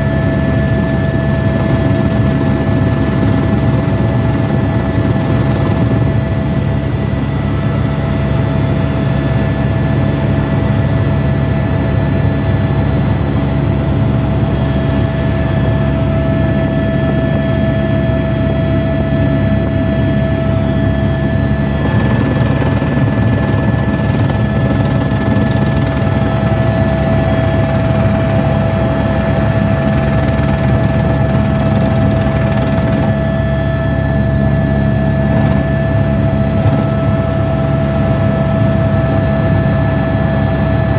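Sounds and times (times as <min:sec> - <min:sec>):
constant whine: 0:00.0 - 0:40.9
helicopter rotor and engine drone: 0:00.0 - 0:40.9.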